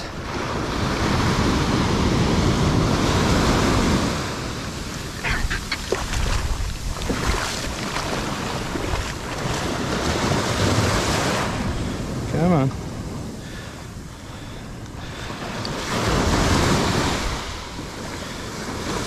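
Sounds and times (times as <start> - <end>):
surf washing over sand: 0.0 - 19.0
wind on microphone: 0.0 - 19.0.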